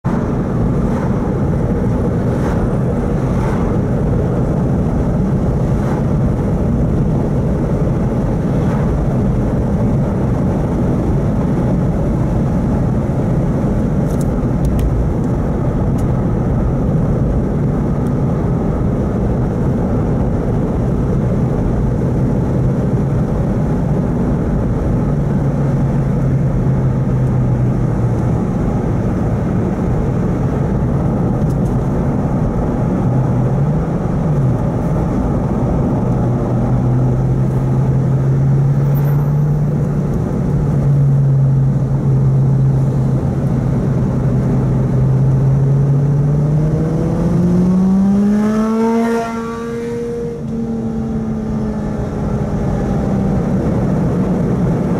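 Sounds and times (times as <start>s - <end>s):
car engine drone: 0.0s - 54.9s
tyres rumbling on asphalt: 0.0s - 54.9s.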